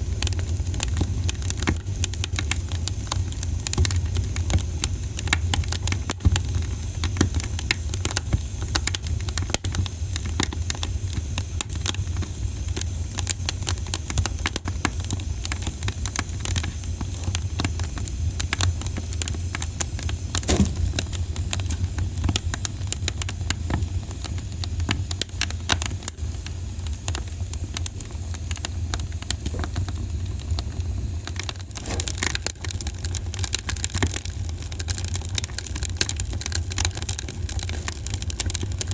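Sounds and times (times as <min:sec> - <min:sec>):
fire low rumble: 0:00.0 - 0:38.9
campfire crackling and popping: 0:00.1 - 0:38.9.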